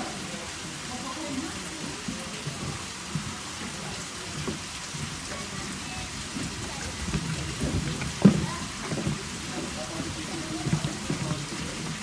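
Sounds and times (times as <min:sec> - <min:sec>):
faint distant voices: 0:00.0 - 0:12.0
falling water hiss: 0:00.0 - 0:12.0.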